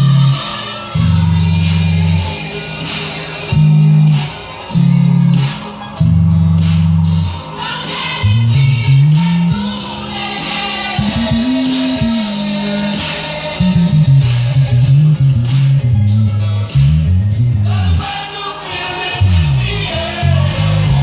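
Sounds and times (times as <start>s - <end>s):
electric bass line: 0.0s - 2.5s, 3.4s - 7.5s, 8.2s - 9.9s, 10.8s - 18.1s, 19.2s - 21.0s
voices singing: 0.0s - 21.0s.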